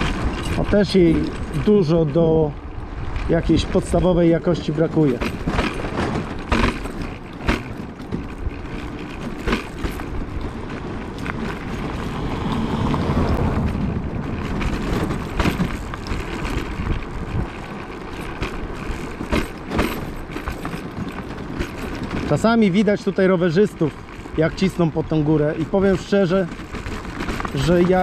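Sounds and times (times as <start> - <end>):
tyres rumbling on gravel: 0.0 - 28.0.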